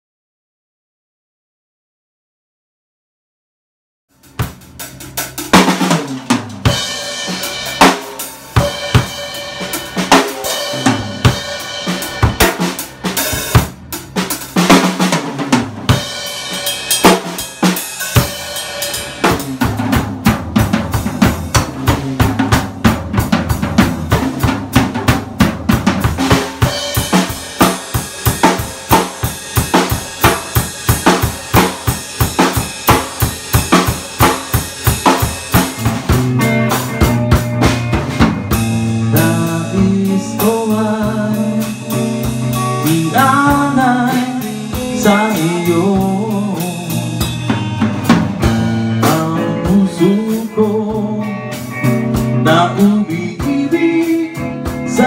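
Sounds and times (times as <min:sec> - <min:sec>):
drum kit playing fast groove: 0:04.1 - 0:55.0.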